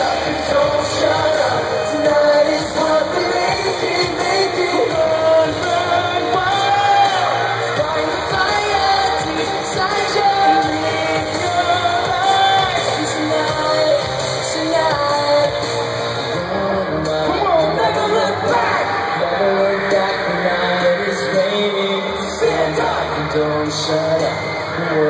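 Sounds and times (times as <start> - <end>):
boy band singing: 0.0 - 25.0
loud amplified pop music: 0.0 - 25.0.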